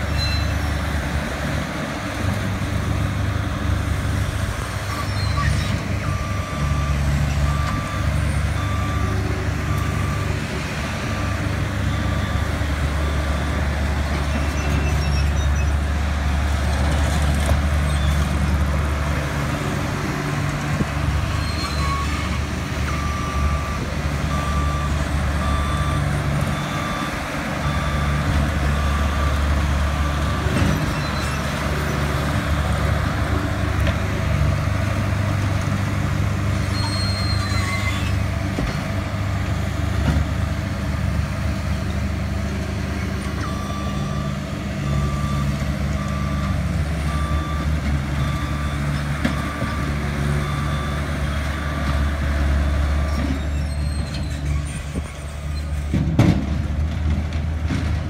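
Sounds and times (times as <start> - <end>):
loader engine running: 0.0 - 58.0.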